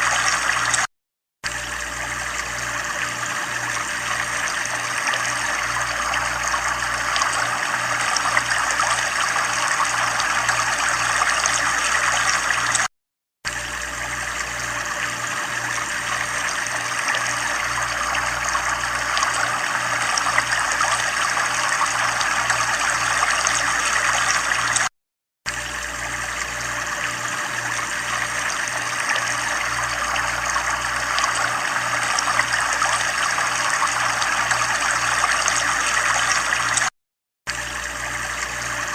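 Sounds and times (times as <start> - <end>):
running water trickling: 0.0 - 12.9, 13.5 - 24.9, 25.5 - 36.9.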